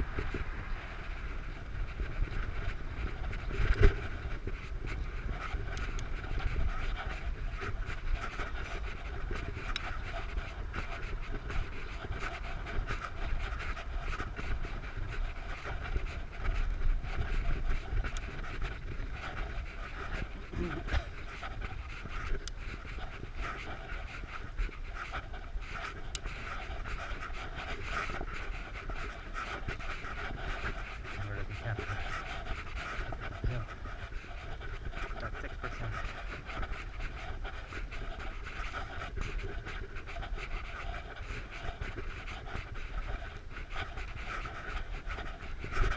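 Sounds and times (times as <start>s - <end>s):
wind rumble on microphone: 0.0s - 45.9s.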